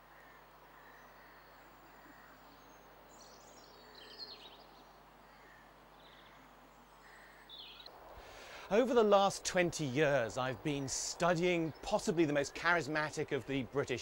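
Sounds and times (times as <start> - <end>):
low outdoor hiss: 0.0 - 14.0.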